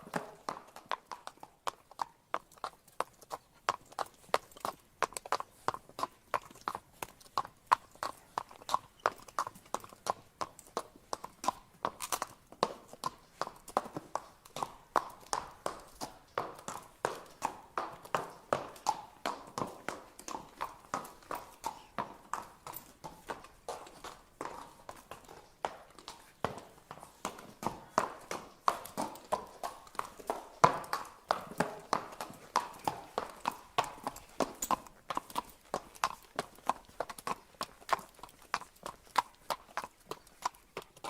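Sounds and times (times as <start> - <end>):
horse hooves clip-clopping: 0.0 - 41.0.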